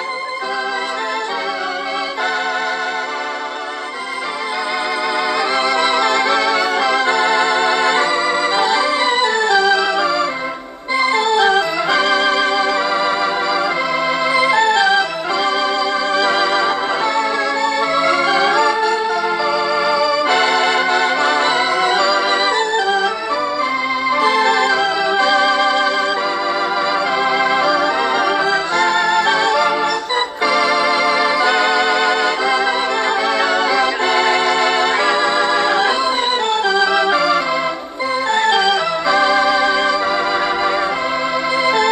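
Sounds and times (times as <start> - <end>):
electric organ melody with vibrato: 0.0 - 41.9.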